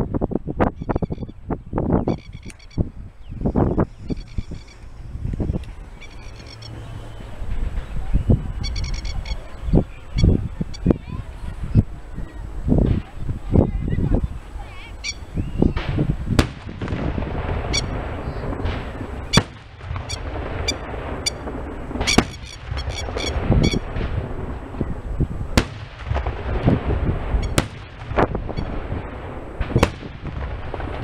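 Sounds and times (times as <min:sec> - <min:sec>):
low rumble: 0:00.0 - 0:31.0
high crackles: 0:00.6 - 0:31.0
fireworks bangs: 0:02.0 - 0:31.0.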